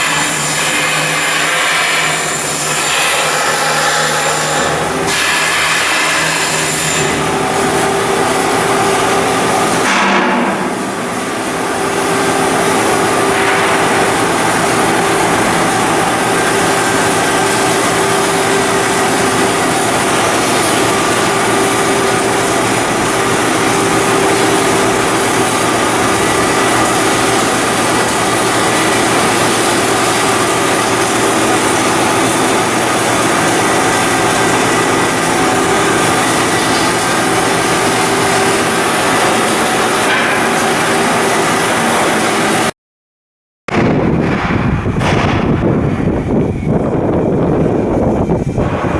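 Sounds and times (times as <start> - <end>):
shipyard machinery noise: 0.0 - 42.8, 43.7 - 48.9.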